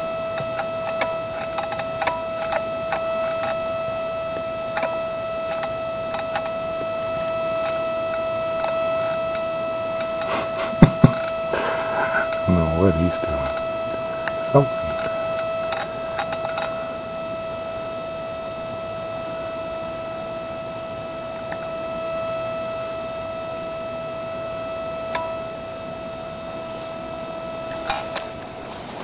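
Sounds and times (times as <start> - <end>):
electronic hum with ringing overtones: 0.0 - 29.0.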